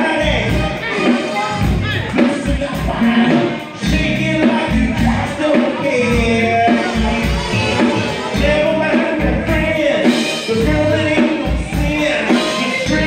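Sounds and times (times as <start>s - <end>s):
live funk band playing: 0.0s - 13.0s
person singing: 0.0s - 13.0s.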